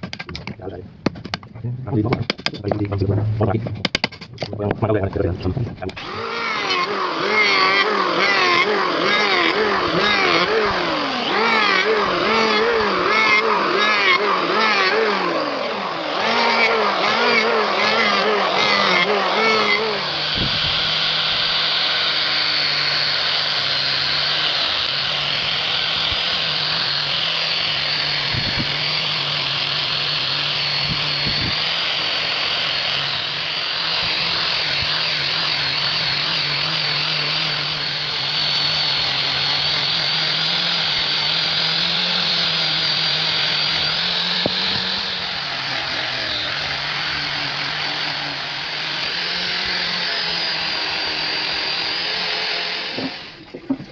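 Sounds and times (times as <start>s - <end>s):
power tool motor whining: 5.8s - 53.9s.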